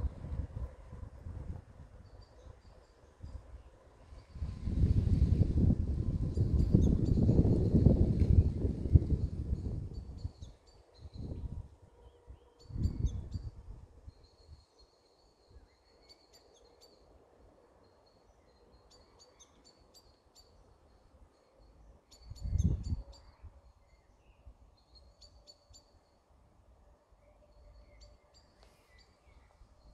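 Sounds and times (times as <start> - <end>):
faint outdoor background noise: 0.0 - 29.9.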